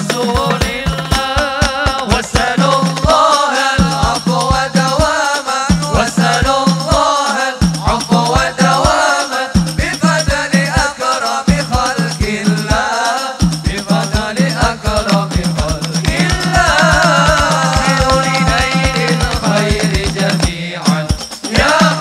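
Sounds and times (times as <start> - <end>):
rattling shaker: 0.0 - 22.0
steady drum beat: 0.0 - 22.0
voices singing together: 0.0 - 22.0.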